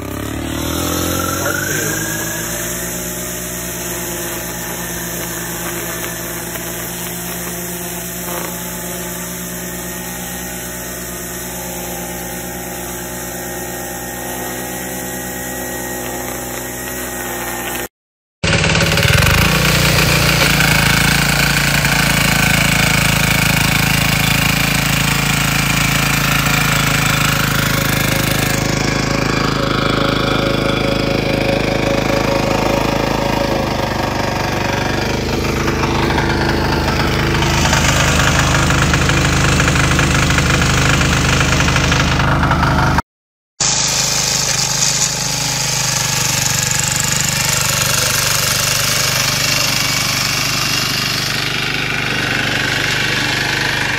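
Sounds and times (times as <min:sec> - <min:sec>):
small tiller engine knocking: 0:00.0 - 0:43.0, 0:43.6 - 0:53.9.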